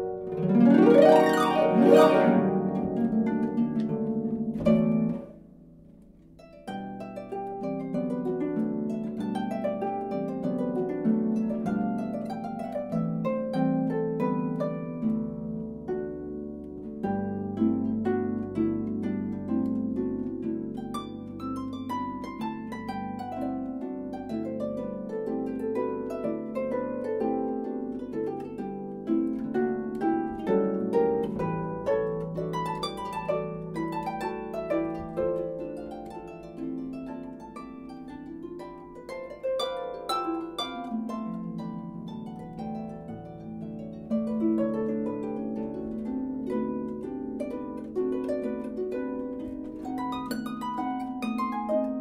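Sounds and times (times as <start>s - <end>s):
harp plucked notes: 0.0s - 52.0s.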